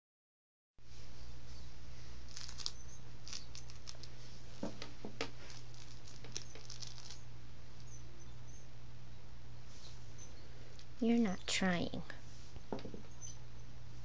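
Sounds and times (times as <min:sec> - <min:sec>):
steady low hum: 0:00.8 - 0:14.0.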